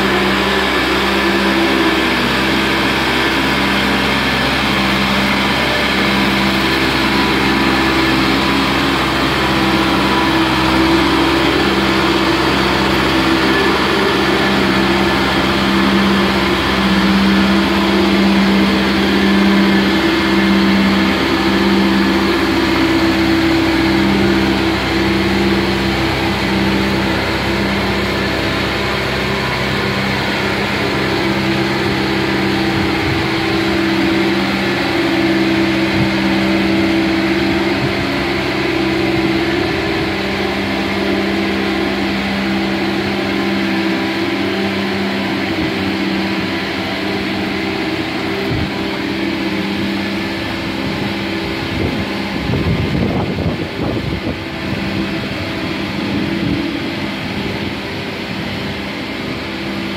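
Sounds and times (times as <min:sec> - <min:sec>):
boat hoist engine running: 0:00.0 - 0:59.9.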